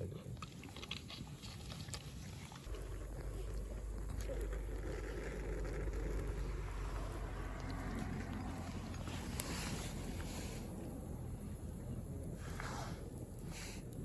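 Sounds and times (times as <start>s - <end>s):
fire crackling: 0.2s - 14.0s
low rumble: 2.6s - 14.0s
rush of flames: 2.7s - 14.0s.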